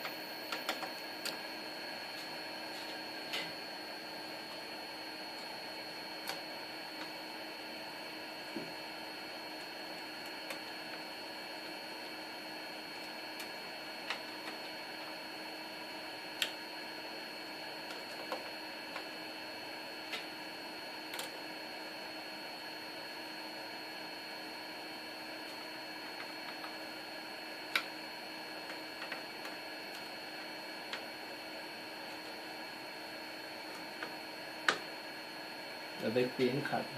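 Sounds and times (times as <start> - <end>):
electrical hum and hiss: 0.0 - 36.9.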